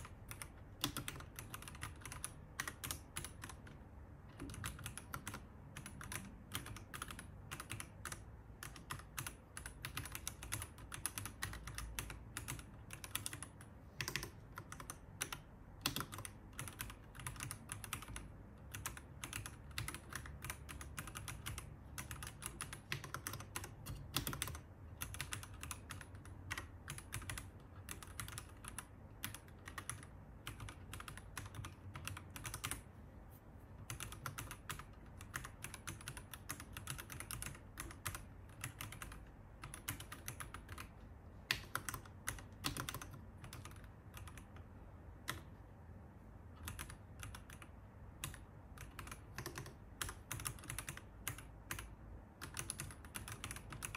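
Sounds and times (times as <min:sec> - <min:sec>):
mechanical keyboard typing: 0:00.0 - 0:32.9, 0:33.8 - 0:45.6, 0:46.5 - 0:53.9.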